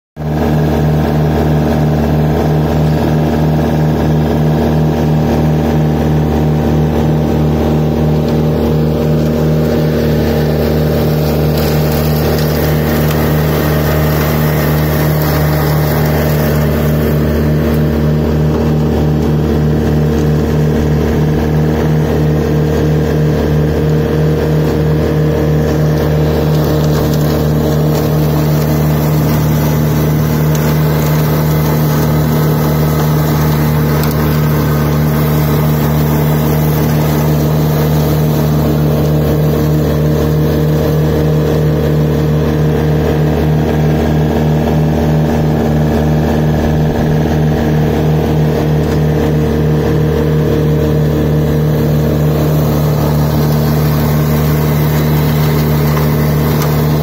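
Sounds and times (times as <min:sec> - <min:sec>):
mulcher shredding grass: 0:00.2 - 0:57.0
tractor diesel engine running: 0:00.2 - 0:57.0.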